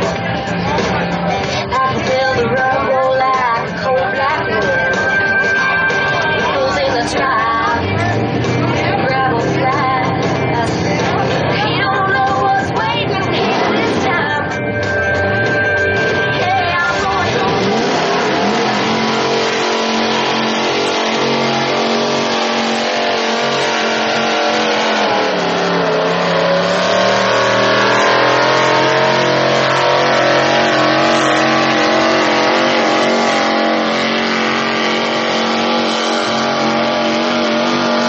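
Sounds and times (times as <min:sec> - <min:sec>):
truck engine at high revs: 0:00.0 - 0:38.0.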